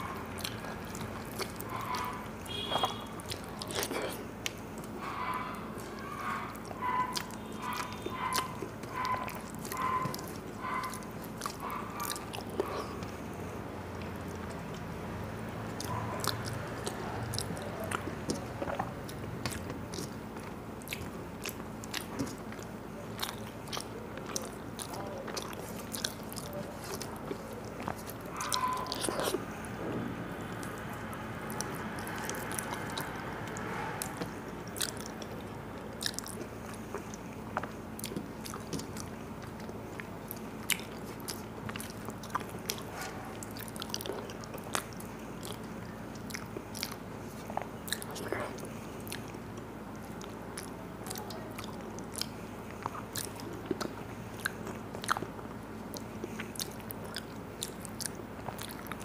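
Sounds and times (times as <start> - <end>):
faint steady hum: 0.0 - 59.0
person chewing food: 0.0 - 59.0.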